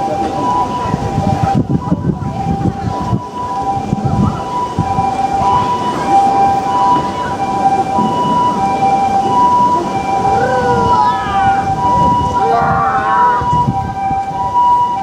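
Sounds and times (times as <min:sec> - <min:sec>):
two-tone siren: 0:00.0 - 0:15.0.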